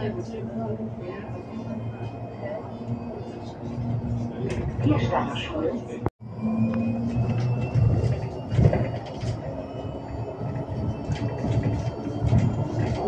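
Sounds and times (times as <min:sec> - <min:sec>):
electric bus low rumble: 0:00.0 - 0:13.0
street noise: 0:00.0 - 0:13.0.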